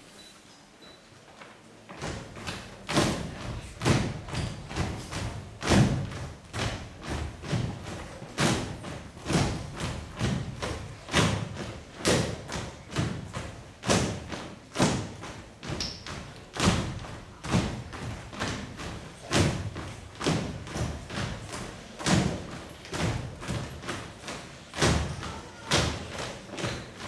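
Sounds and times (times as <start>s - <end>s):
dancers stamping on stage floor: 1.9s - 27.0s.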